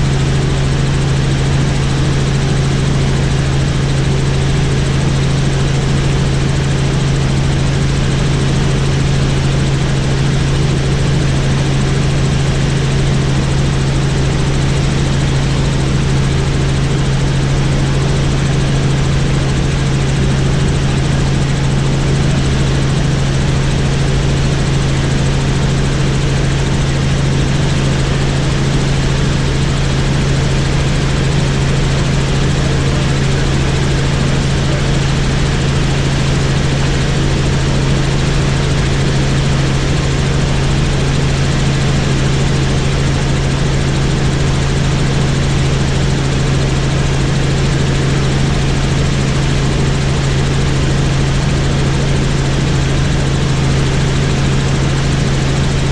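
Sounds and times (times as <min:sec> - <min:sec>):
helicopter rotor drone: 0:00.0 - 0:55.9.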